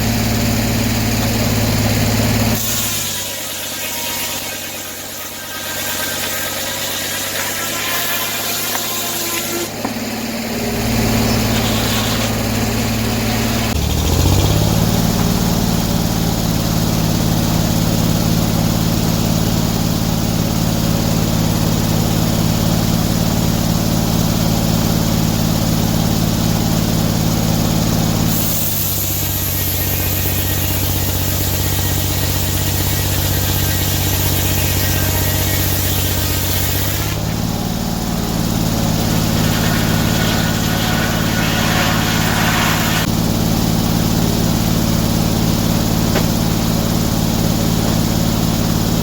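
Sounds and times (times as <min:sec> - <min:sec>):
engine running and revving: 0:00.0 - 0:49.0.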